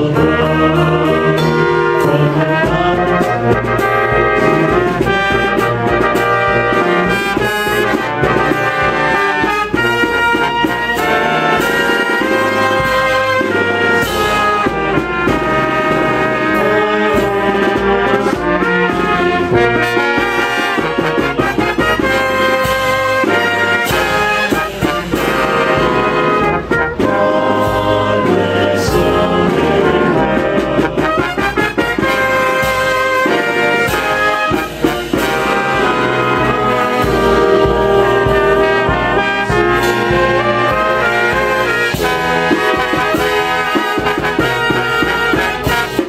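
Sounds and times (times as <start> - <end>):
brass band playing: 0.0 - 46.0.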